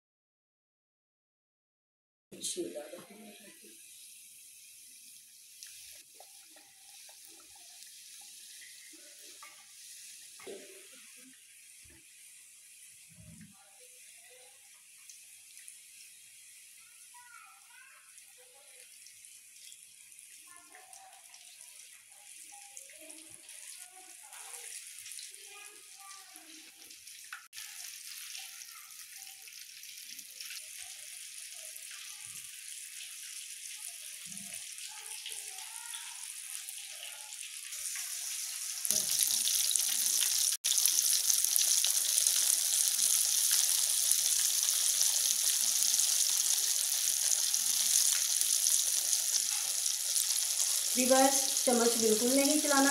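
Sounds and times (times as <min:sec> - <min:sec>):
chicken deep-frying sizzle: 0:02.4 - 0:52.9.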